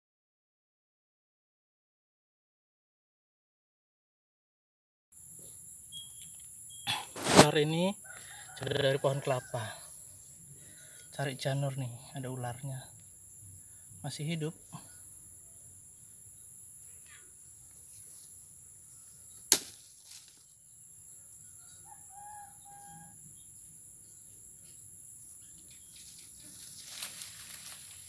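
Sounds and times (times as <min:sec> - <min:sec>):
insects chorus: 0:05.2 - 0:28.0.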